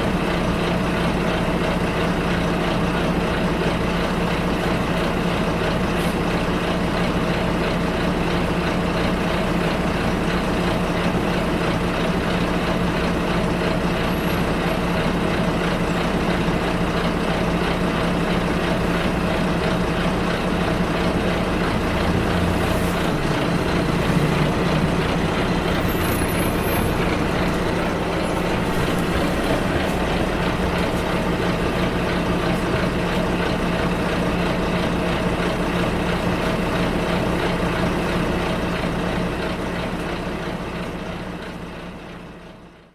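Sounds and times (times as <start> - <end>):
road noise: 0.0 - 42.7
bus engine drone: 0.0 - 42.9.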